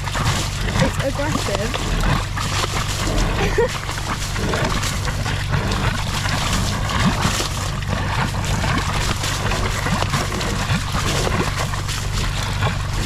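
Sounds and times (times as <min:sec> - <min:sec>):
engine humming: 0:00.0 - 0:13.0
suction hose slurping wet silt: 0:00.0 - 0:13.0.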